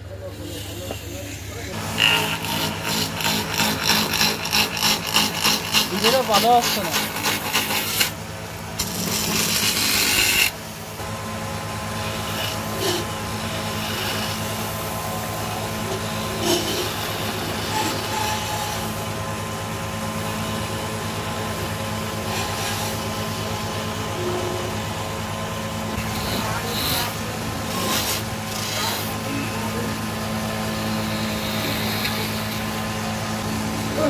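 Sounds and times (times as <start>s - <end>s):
chisel cutting spinning wood: 0.0s - 34.0s
wood lathe humming: 0.0s - 34.0s.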